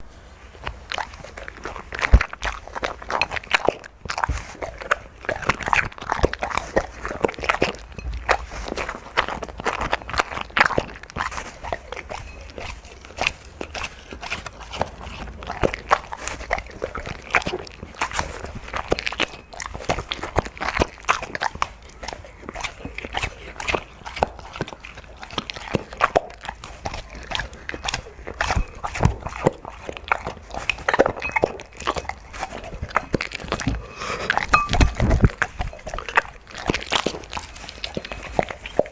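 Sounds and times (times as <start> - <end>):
dog crunching food: 0.0 - 38.9.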